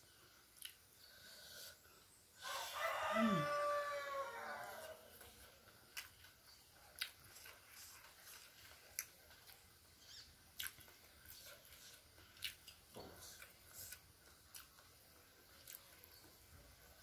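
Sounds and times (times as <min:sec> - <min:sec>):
person chewing food: 0:00.2 - 0:01.9, 0:04.1 - 0:17.0.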